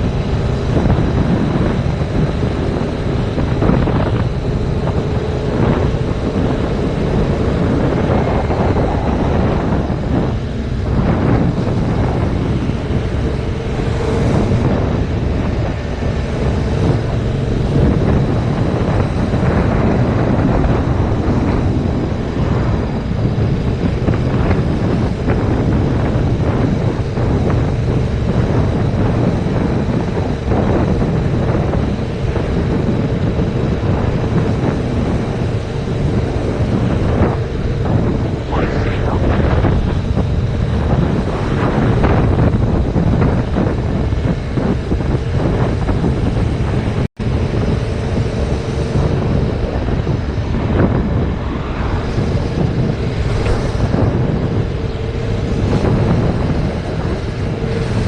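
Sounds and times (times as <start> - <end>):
wind buffeting on microphone: 0.0 - 58.0.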